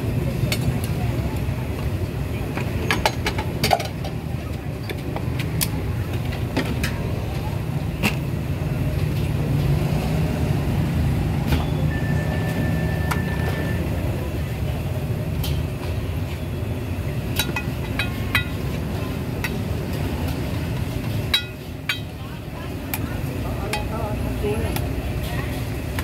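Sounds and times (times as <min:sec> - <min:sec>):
low rumble of traffic: 0:00.0 - 0:26.0.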